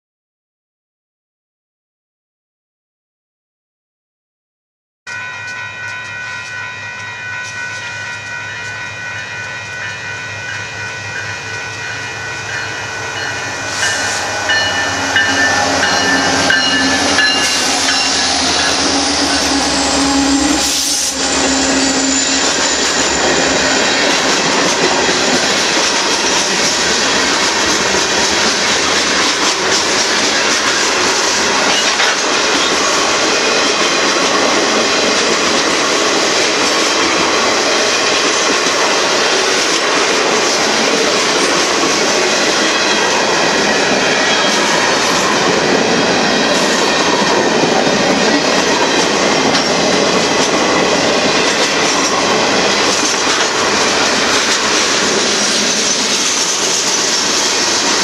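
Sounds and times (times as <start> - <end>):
crossing warning bell: 5.1 - 58.0
freight train passing: 5.1 - 58.0.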